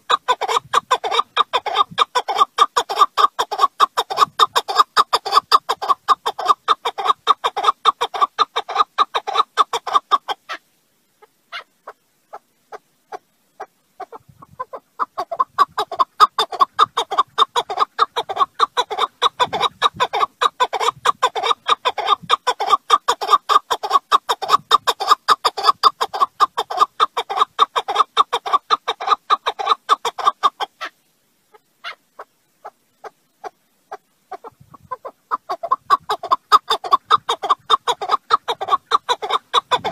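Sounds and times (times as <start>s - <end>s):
partridge clucking call: 0.0s - 10.6s, 11.2s - 30.9s, 31.5s - 39.9s.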